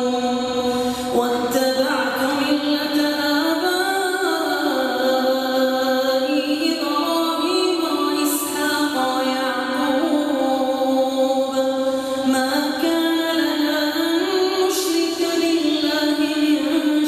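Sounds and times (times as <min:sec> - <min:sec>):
person chanting melodically: 0:00.0 - 0:17.0.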